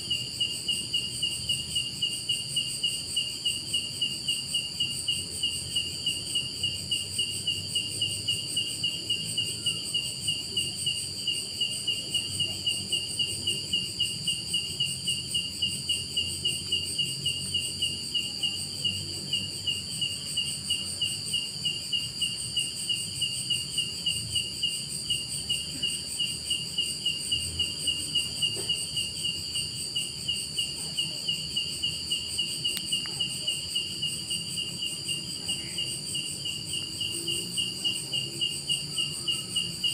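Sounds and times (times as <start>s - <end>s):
cricket chirping: 0.0s - 39.9s
high-pitched insect trilling: 0.1s - 39.9s.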